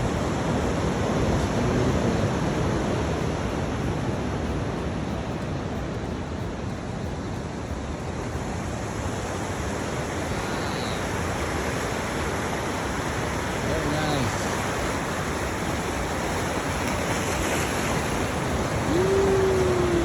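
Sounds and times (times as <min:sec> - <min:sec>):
ocean surf washing ashore: 0:00.0 - 0:20.0.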